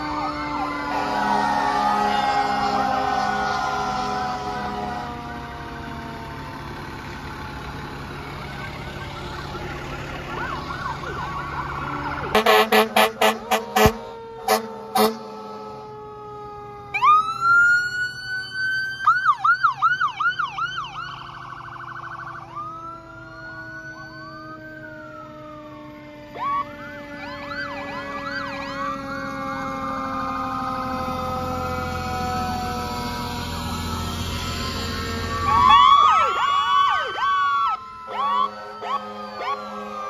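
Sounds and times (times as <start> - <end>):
fire truck sirens wailing: 0.0 - 40.0
heavy truck engine passing: 0.0 - 40.0.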